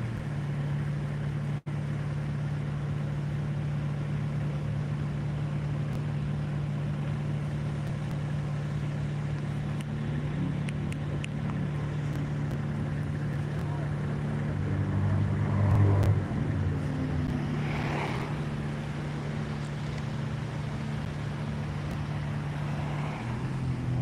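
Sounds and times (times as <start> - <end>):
car engine idling: 0.0 - 24.0
cars creeping past: 0.0 - 24.0.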